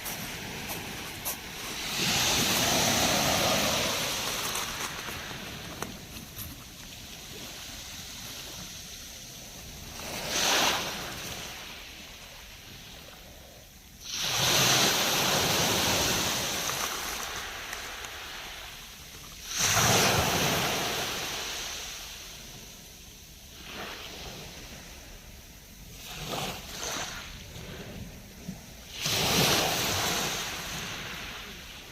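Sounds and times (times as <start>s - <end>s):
waves crashing on shore: 0.0s - 13.2s, 14.0s - 22.8s, 25.7s - 31.9s.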